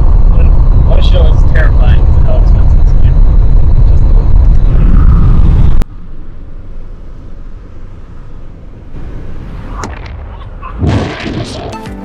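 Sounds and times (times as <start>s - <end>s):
loud low rumble in truck cab: 0.0s - 11.1s
quiet low rumble: 0.0s - 11.8s.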